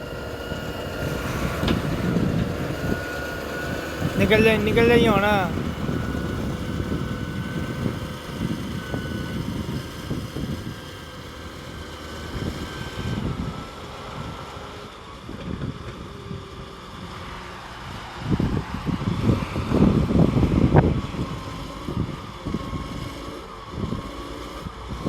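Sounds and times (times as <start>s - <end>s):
heavy machine engine running: 0.0s - 25.0s
wind buffeting microphone: 0.0s - 25.0s.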